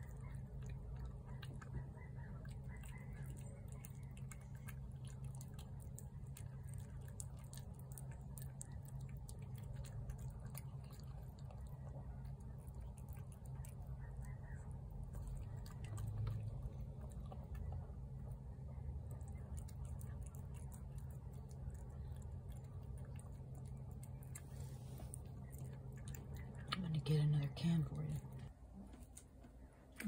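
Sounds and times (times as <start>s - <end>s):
cat chewing and lapping food: 0.0s - 30.0s
low steady hum: 0.0s - 30.0s.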